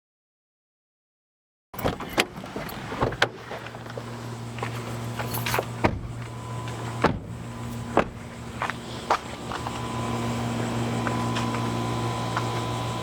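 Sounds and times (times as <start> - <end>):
car engine humming: 1.8 - 13.0.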